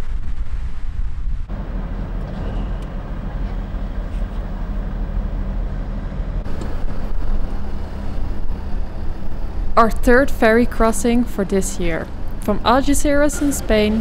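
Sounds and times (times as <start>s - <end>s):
car engine droning: 1.4s - 14.0s.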